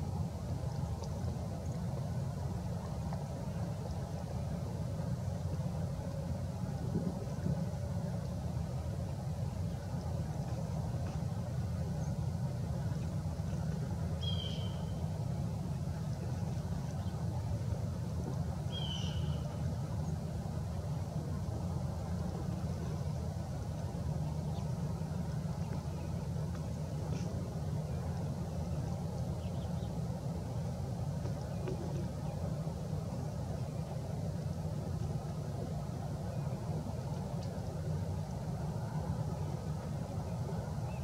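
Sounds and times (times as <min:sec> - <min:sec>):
low engine hum: 0:00.0 - 0:41.0.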